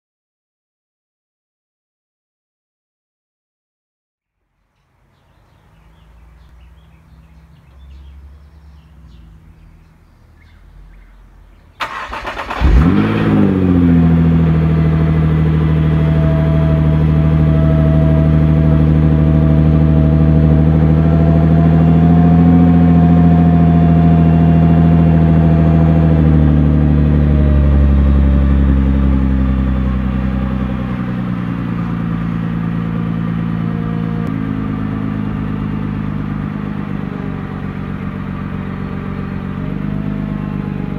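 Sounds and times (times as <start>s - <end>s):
car engine cold start and idle: 5.1s - 40.9s.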